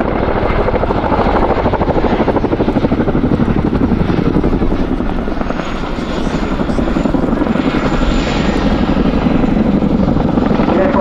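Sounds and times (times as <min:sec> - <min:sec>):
helicopter engines: 0:00.0 - 0:11.0
helicopter rotors thudding: 0:00.0 - 0:11.0.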